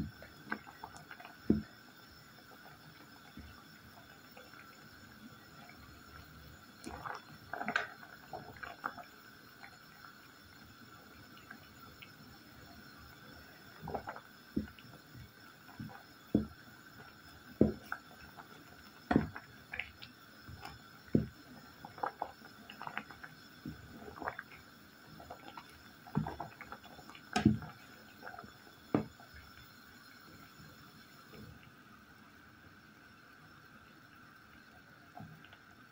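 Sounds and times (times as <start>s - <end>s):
faint steady hum: 0.0s - 35.9s
pot boiling with bubbling pops: 0.0s - 35.9s.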